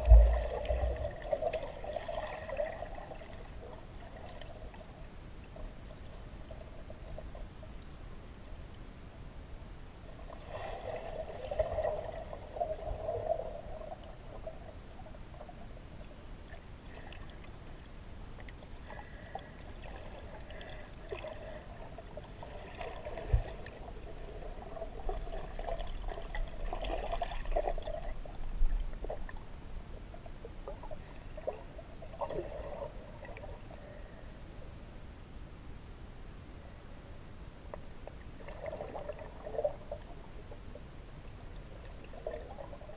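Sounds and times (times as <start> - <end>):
underwater river rush: 0.0 - 34.9, 37.4 - 42.9.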